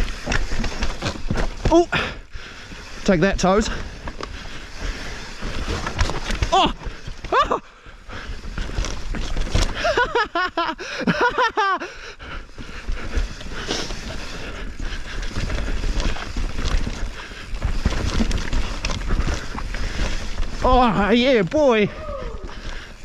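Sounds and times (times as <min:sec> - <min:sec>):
bike tyre and frame rattle: 0:00.0 - 0:23.0.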